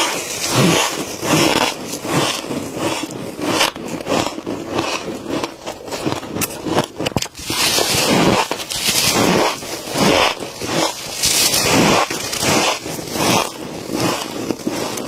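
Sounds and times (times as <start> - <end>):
frost being scraped: 0.0 - 15.0.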